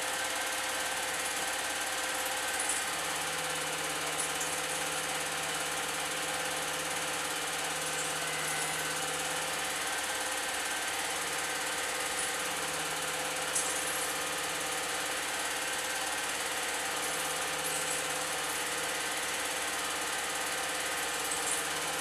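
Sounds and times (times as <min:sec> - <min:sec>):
film projector whirring: 0:00.0 - 0:22.0.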